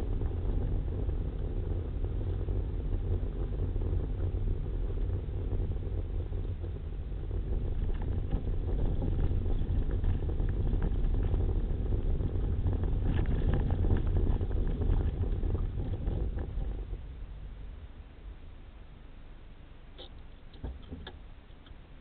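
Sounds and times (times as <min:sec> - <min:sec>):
gravel ticking: 0:00.0 - 0:17.7
tyres rumbling on gravel: 0:00.0 - 0:17.7.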